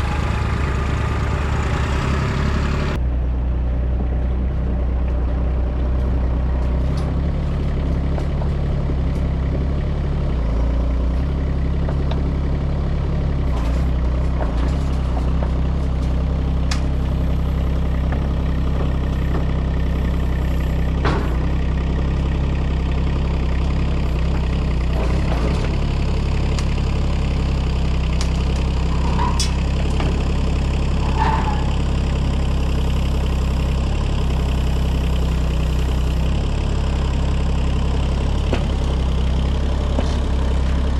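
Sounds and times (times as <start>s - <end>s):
diesel engines idling: 0.0s - 40.9s.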